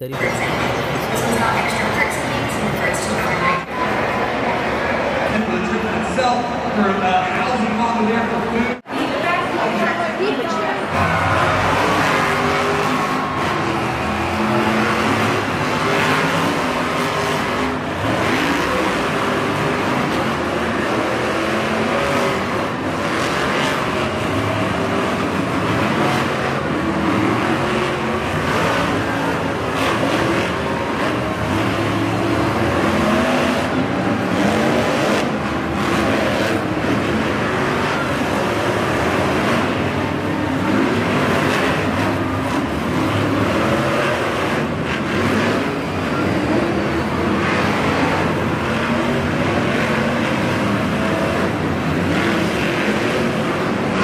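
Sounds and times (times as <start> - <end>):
monster truck engines revving: 0.0 - 54.0.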